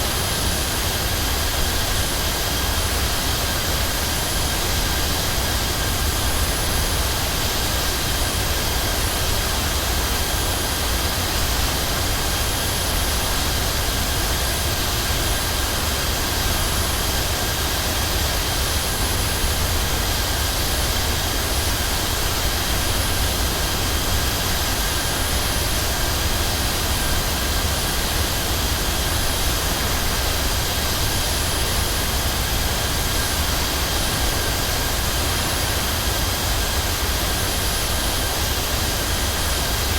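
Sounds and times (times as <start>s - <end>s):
jet engines and airflow roar: 0.1s - 39.9s.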